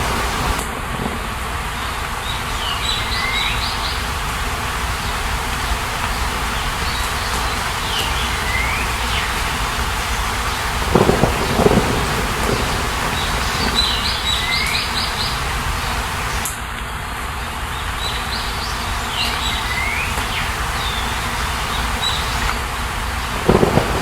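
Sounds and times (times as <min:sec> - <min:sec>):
small birds chirping: 0:00.0 - 0:01.1, 0:01.7 - 0:16.5, 0:17.7 - 0:24.0
rushing rain or water: 0:00.0 - 0:24.0.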